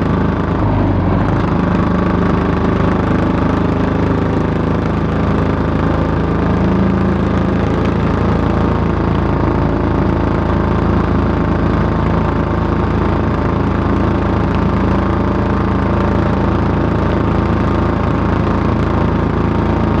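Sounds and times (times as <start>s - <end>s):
motorcycle idling: 0.0s - 20.0s.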